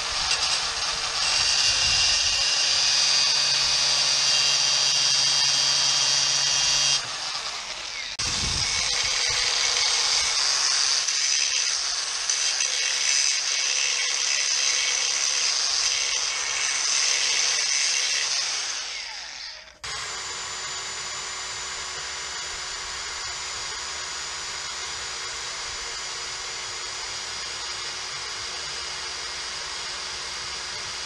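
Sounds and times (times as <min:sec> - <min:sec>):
angle grinder grinding steel: 0:00.0 - 0:31.0
electric drill whining: 0:00.0 - 0:31.0.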